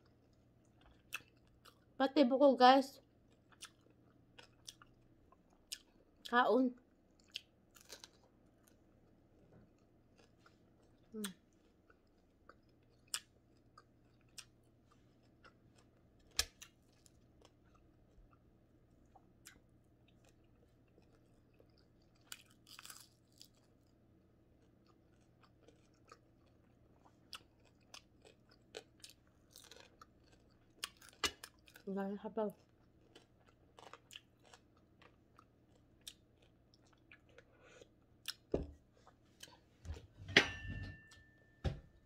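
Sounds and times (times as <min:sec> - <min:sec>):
chewing crispy fried fish: 0:00.0 - 0:02.0, 0:03.0 - 0:39.7.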